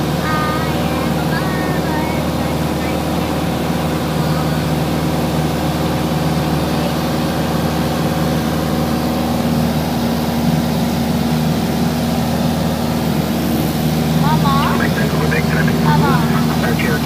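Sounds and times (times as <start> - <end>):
airplane engines droning: 0.0 - 17.0.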